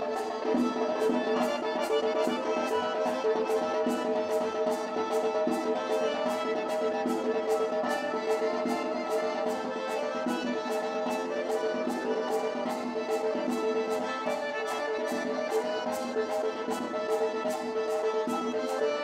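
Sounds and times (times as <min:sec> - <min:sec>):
folk dance melody: 0:00.0 - 0:19.0
steady percussion beat: 0:00.0 - 0:19.0.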